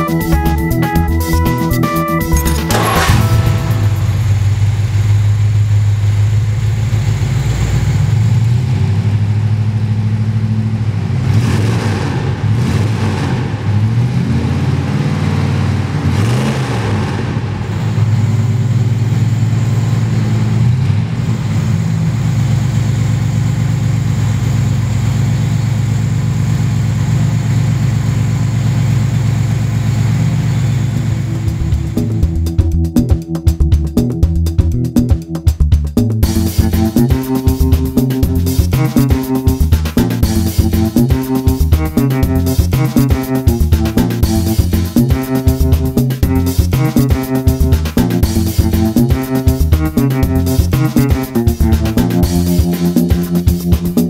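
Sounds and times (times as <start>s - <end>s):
car engine idling and revving: 2.4s - 34.6s, 35.7s - 54.0s.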